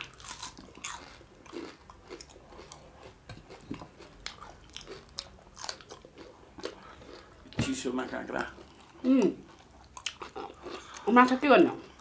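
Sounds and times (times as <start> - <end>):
people chewing: 0.0 - 11.1.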